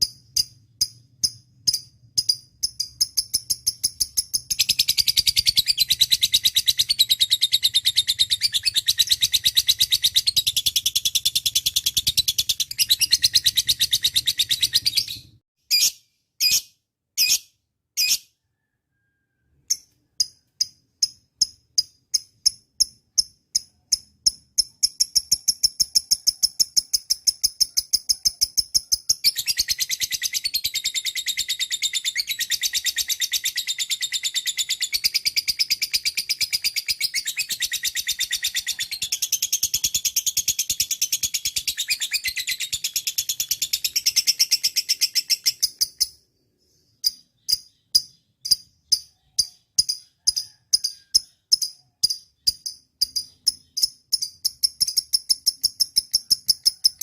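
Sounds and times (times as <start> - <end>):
lovebird chirping and trilling: 0.0 - 57.0.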